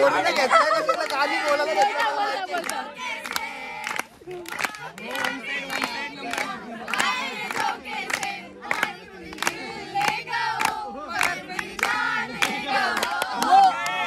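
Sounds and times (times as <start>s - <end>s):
hand clapping: 0.0s - 14.0s
young people singing in unison: 0.0s - 14.0s.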